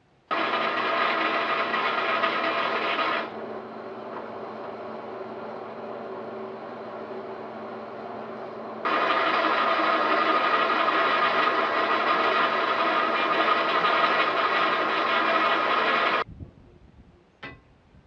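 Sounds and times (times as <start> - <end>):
motor humming: 0.3 - 16.2.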